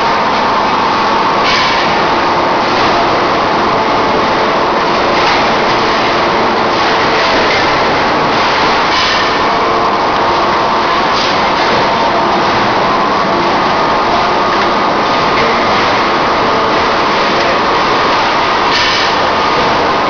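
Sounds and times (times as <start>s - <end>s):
spot-welding machinery noise: 0.0s - 20.0s.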